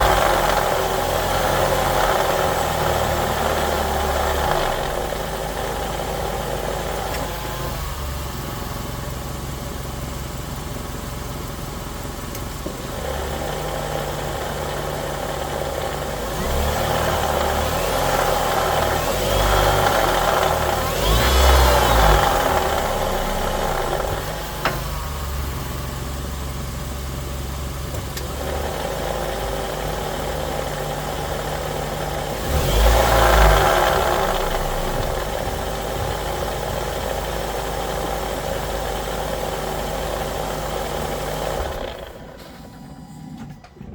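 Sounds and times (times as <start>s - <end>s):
transmission grinding and whining: 0.0s - 8.9s, 11.6s - 43.9s.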